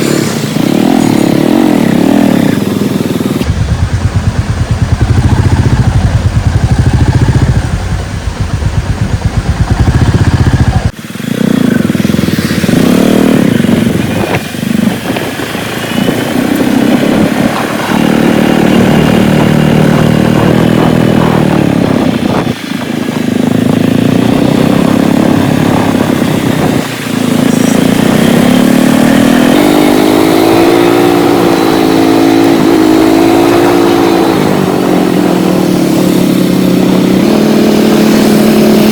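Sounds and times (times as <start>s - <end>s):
wind rumble on microphone: 0.0s - 11.0s, 11.6s - 38.9s
motorcycle engine running: 0.0s - 38.9s.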